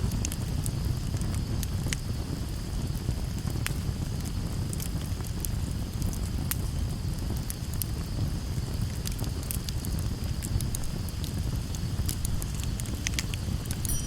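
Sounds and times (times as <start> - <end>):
low steady rumble of fire: 0.0 - 14.0
wood fire crackling: 0.0 - 14.0.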